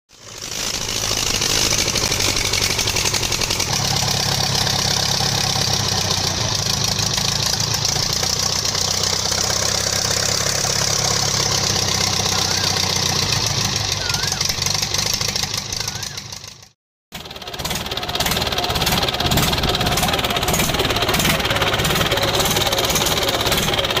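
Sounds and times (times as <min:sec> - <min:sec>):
diesel tractor engine idling: 0:00.2 - 0:24.0.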